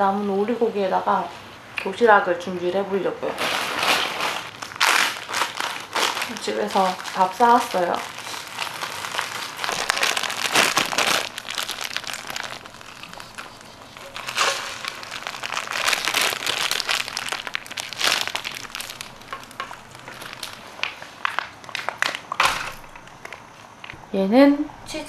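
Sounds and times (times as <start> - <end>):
plastic bag crinkling: 3.2 - 23.4.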